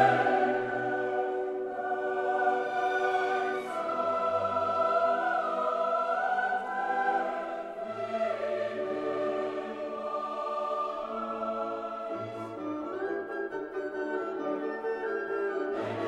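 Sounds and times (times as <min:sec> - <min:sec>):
slow choral singing: 0:00.0 - 0:13.1, 0:15.7 - 0:16.0.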